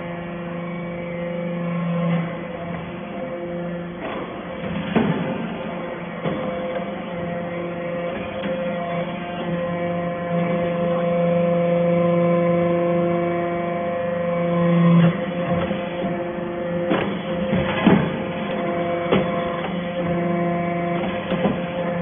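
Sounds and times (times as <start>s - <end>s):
hydraulic power unit humming: 0.0s - 22.0s.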